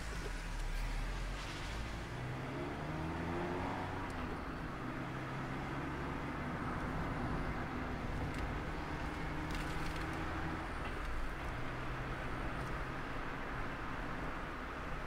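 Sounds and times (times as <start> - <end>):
car engine accelerating: 0.0 - 13.0
road noise: 0.0 - 15.0.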